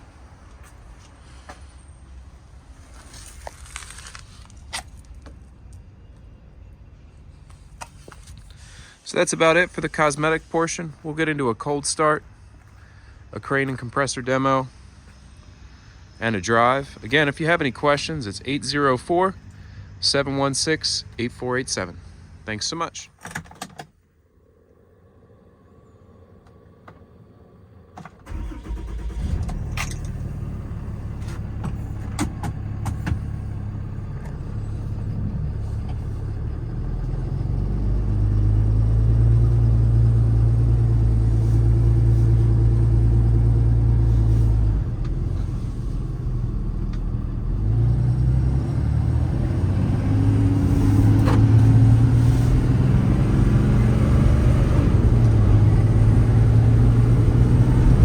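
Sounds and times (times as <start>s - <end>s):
diesel engine droning: 0.0s - 23.0s, 24.4s - 58.0s.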